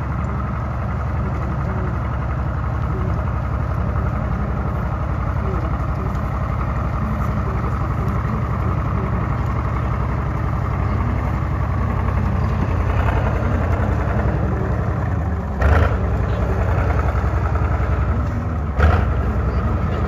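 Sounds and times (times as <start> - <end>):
diesel tank engine running: 0.0 - 20.0.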